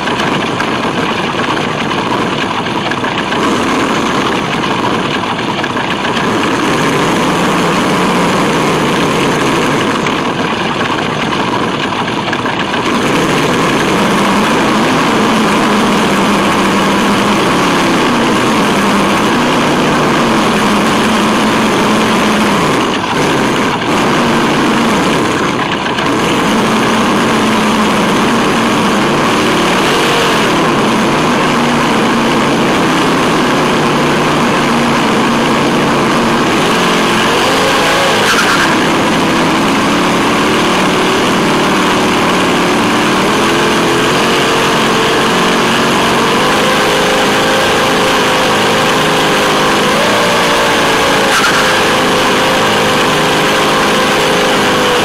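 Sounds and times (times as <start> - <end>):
rc truck motor and gears whining: 0.0 - 55.0.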